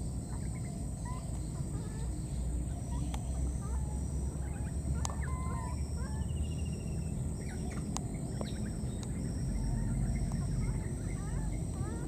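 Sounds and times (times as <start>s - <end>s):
faint chirping calls: 0.0s - 12.0s.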